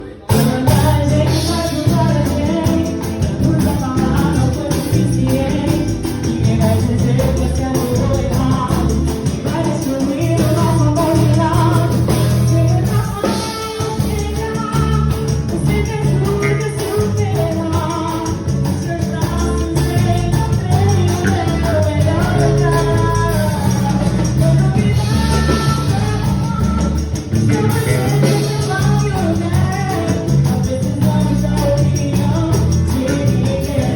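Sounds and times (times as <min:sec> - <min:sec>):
percussion beat: 0:00.0 - 0:33.9
samba music with singing: 0:00.0 - 0:33.9
jingling hand drum: 0:00.3 - 0:33.9.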